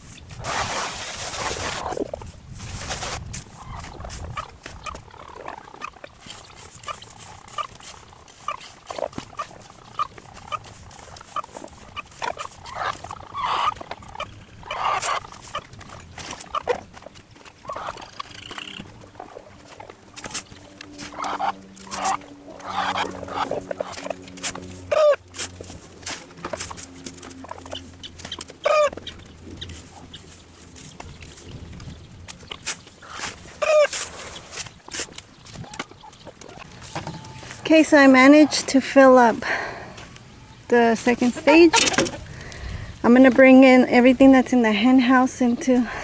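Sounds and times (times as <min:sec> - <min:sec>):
chickens clucking: 0:01.6 - 0:46.0.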